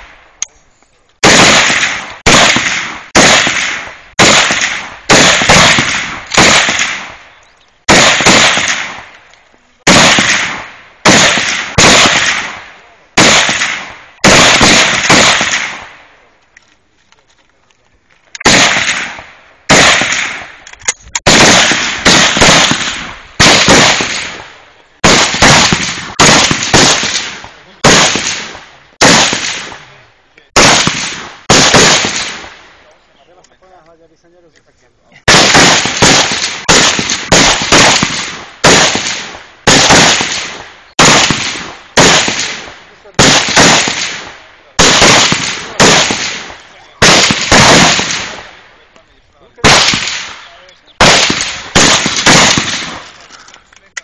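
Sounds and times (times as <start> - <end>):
rifle shots with echo: 1.2 - 16.3, 18.4 - 32.9, 35.3 - 49.0, 49.6 - 53.4.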